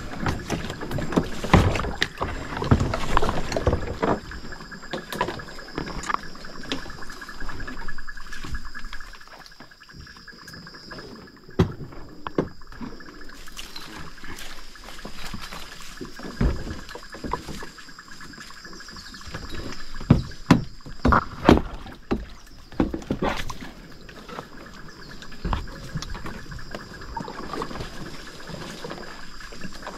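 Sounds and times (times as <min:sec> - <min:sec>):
water sounds: 0:00.0 - 0:29.9.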